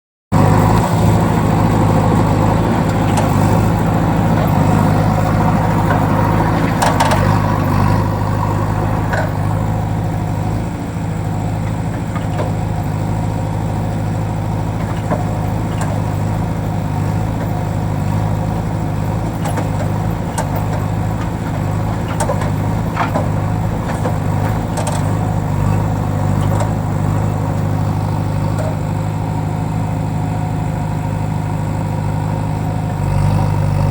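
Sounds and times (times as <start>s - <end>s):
diesel engine idling: 0.3s - 33.9s.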